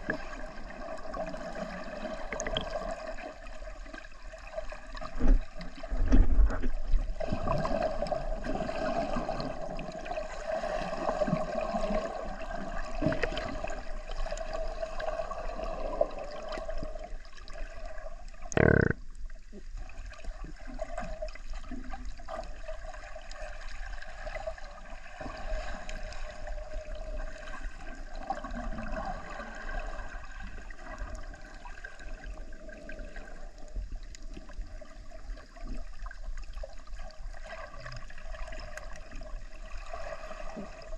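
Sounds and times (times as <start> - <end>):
muffled underwater rushing: 0.0 - 40.9.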